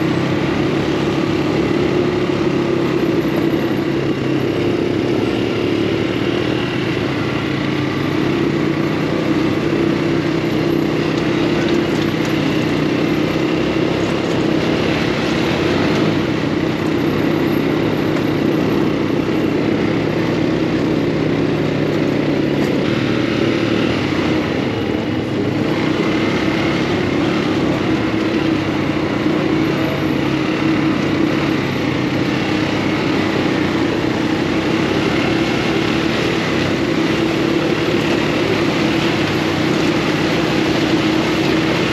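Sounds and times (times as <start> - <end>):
buggy engine droning: 0.0 - 41.9.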